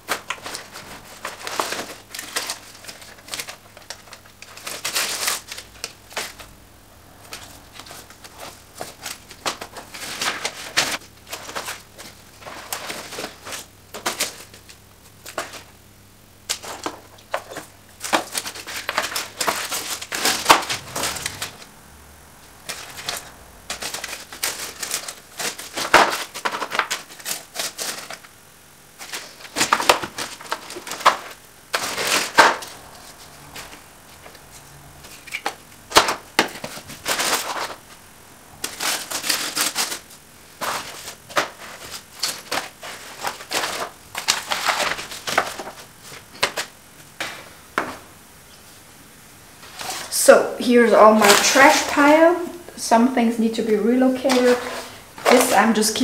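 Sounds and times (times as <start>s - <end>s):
papers rustling and crinkling: 0.0s - 6.6s, 7.2s - 15.8s, 16.4s - 48.9s, 49.6s - 50.2s, 51.0s - 52.6s, 54.1s - 56.0s.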